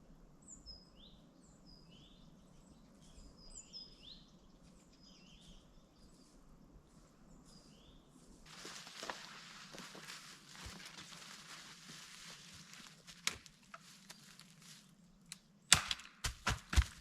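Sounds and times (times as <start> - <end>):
faint birdsong chirping: 0.0 - 15.7.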